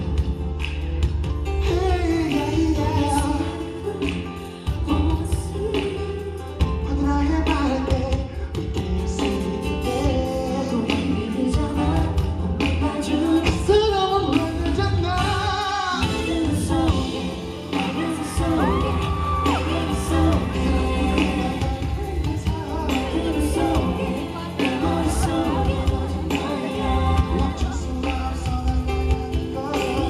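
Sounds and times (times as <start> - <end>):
live amplified pop music: 0.0 - 30.0
person singing: 1.6 - 30.0.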